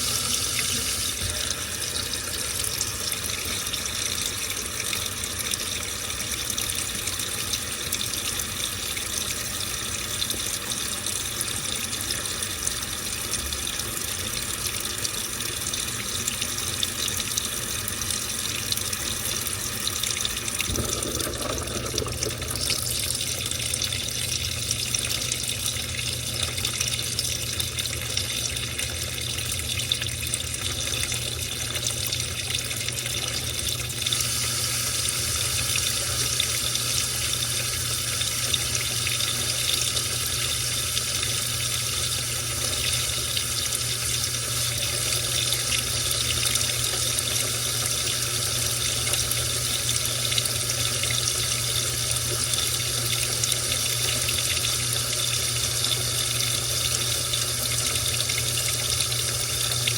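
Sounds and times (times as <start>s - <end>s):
water pouring into washing machine: 0.0s - 59.9s.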